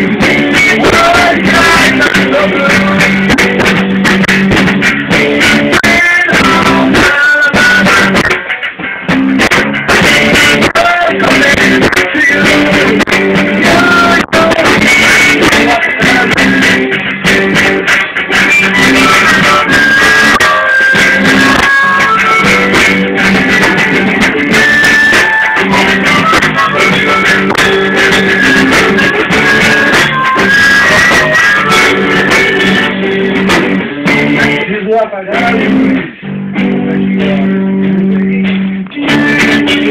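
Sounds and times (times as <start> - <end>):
electric guitars playing: 0.0 - 39.9
harmonica bending notes: 0.0 - 39.9.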